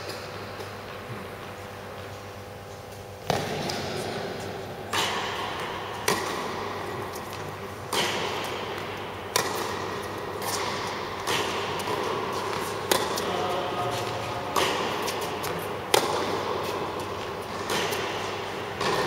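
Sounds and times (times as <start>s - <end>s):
tennis ball bounces: 3.2s - 19.0s
tennis racket strikes: 3.2s - 19.0s.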